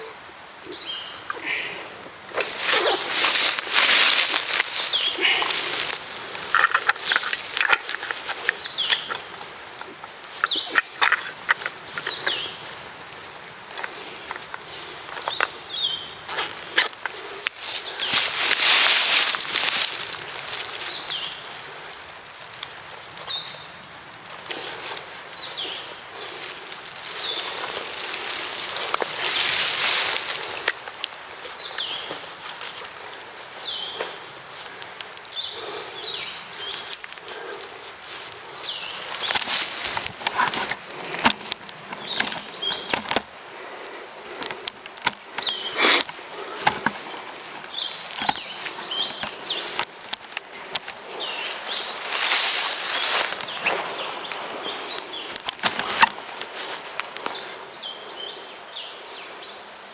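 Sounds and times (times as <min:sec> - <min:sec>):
turkey wings beating in dry leaves: 0:01.3 - 0:57.6.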